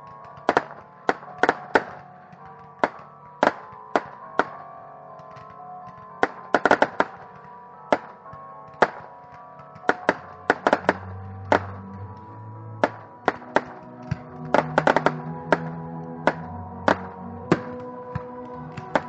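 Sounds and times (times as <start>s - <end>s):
fireworks exploding: 0.0s - 19.0s
music with long held notes: 0.0s - 19.0s.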